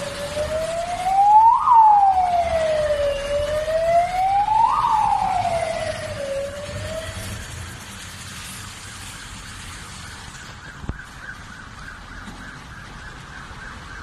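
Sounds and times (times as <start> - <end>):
fire engine siren wailing: 0.0 - 14.0.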